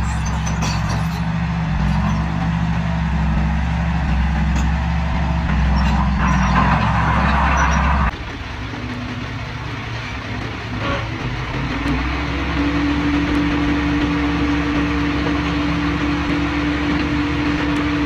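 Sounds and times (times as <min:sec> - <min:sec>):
heavy diesel engine running: 0:00.0 - 0:18.0
rushing noise: 0:00.0 - 0:18.0.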